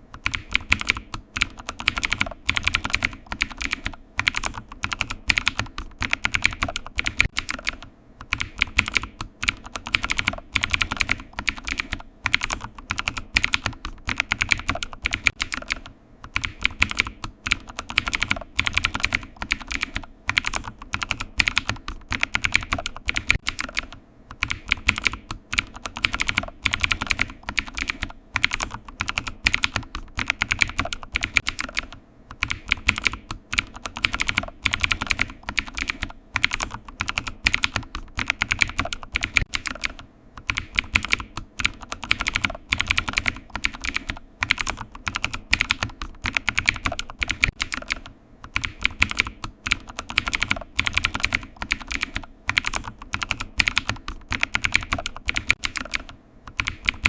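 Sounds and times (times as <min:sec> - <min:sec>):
computer keyboard typing: 0:00.1 - 0:57.0.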